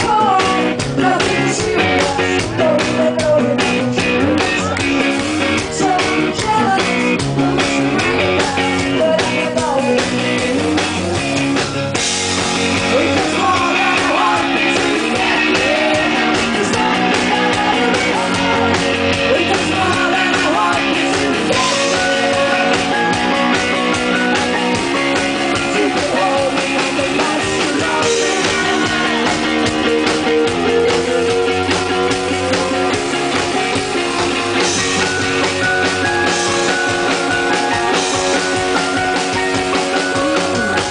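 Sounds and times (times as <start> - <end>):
rock music with drums and guitar: 0.0 - 40.9.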